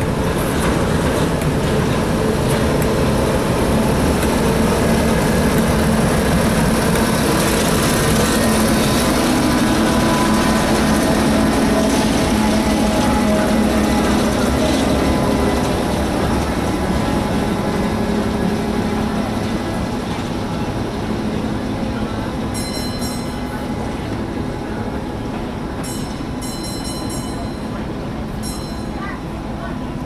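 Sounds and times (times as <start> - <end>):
diesel train engine rumbling: 0.0 - 30.0.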